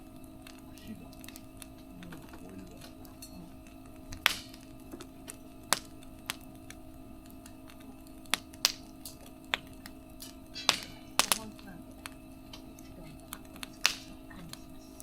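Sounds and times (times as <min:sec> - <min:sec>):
firewood popping and cracking: 0:00.0 - 0:15.0
steady low hum: 0:00.0 - 0:15.0.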